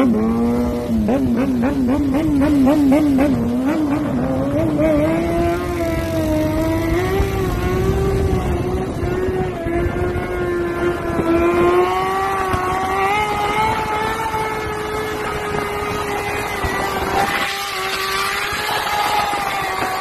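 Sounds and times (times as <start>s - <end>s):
motorcycle engine at high revs: 0.0s - 20.0s
wind rumble on microphone: 0.0s - 20.0s.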